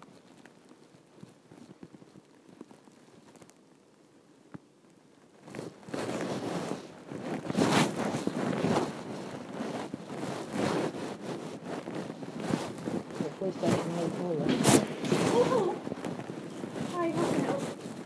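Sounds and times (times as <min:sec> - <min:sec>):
rustling and buffeting on microphone: 0:00.0 - 0:18.0.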